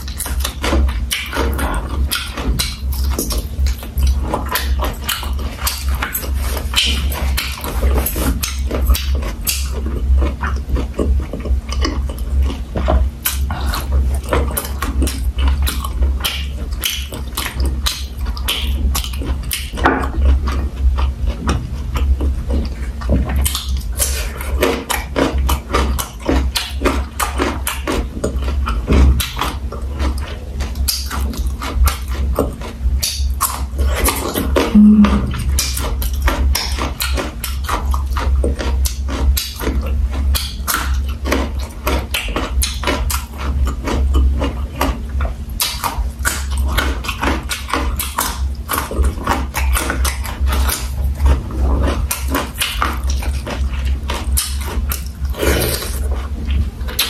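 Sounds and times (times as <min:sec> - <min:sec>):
person chewing and lip-smacking: 0:00.0 - 0:57.0.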